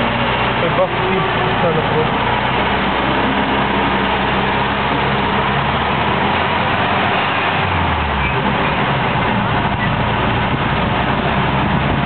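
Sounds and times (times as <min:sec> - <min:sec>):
engine humming: 0:00.0 - 0:12.0
road noise rumble: 0:00.0 - 0:12.0.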